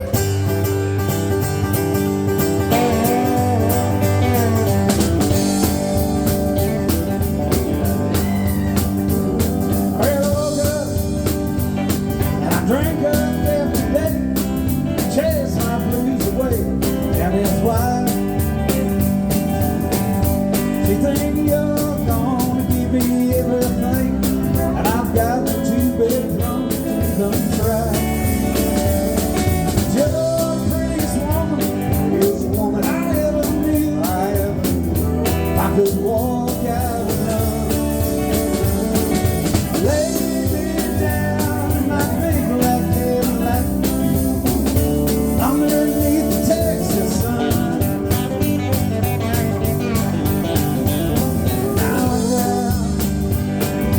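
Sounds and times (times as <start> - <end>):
bass guitar: 0.0 - 53.9
sliding electric guitar lead: 0.0 - 53.9
steady drum beat: 0.0 - 53.9.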